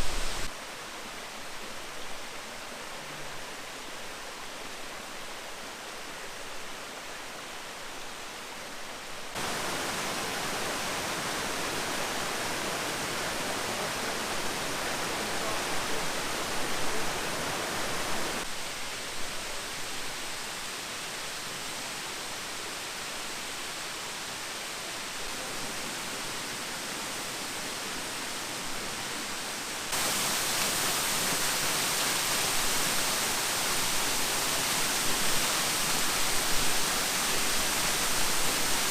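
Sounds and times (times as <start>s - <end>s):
waterfall rushing: 0.0s - 8.4s, 9.3s - 38.9s.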